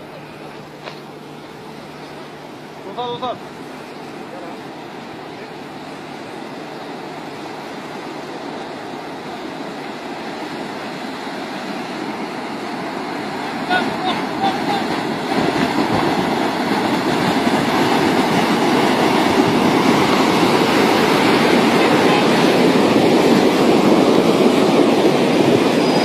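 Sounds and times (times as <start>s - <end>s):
flood water rushing over rocks: 0.0s - 26.0s.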